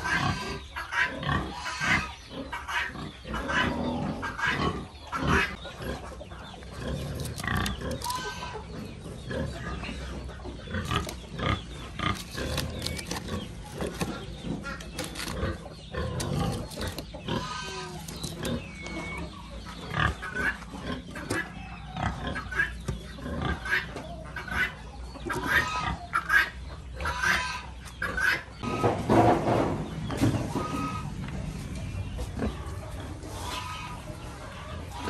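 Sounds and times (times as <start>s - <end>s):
pigs grunting and squealing: 0.0s - 29.8s, 30.4s - 31.3s, 32.4s - 35.0s.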